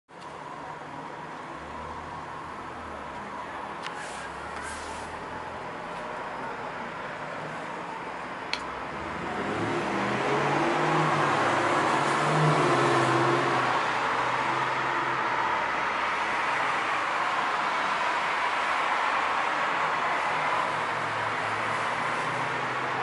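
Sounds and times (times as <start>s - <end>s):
vehicle engine hum and road noise: 0.1s - 23.0s.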